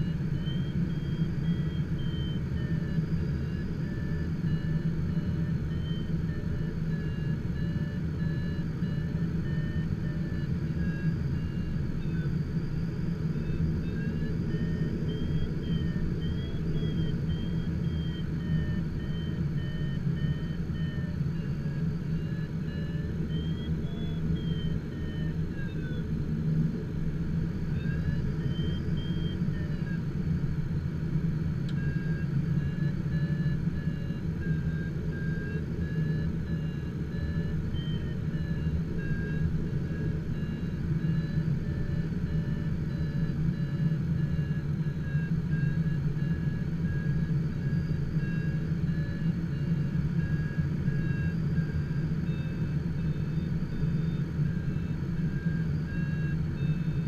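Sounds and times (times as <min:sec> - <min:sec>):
low cockpit rumble: 0:00.0 - 0:57.0
variometer tone beeping: 0:00.0 - 0:57.0.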